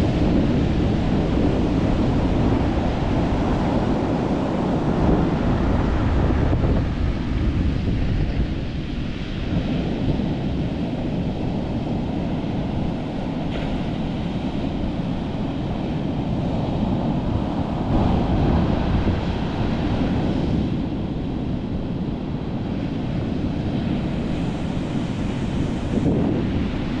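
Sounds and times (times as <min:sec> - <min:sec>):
ocean surf breaking: 0:00.0 - 0:27.0
wind rumbling on microphone: 0:00.0 - 0:27.0.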